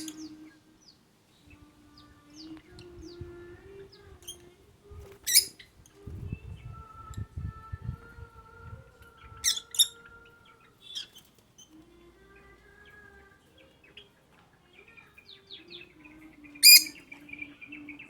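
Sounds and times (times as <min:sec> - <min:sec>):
lovebirds chirping: 0:00.0 - 0:07.2, 0:08.8 - 0:18.0
faint steady tones: 0:00.0 - 0:18.0.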